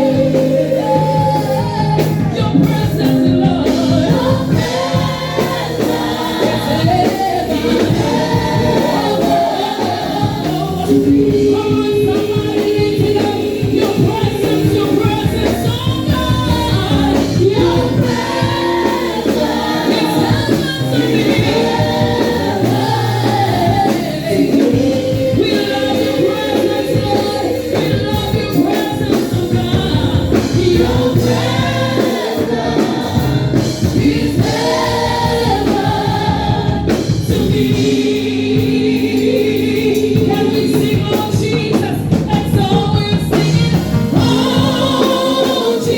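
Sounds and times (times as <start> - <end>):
band accompaniment: 0.0 - 45.9
group singing gospel song: 0.0 - 45.9.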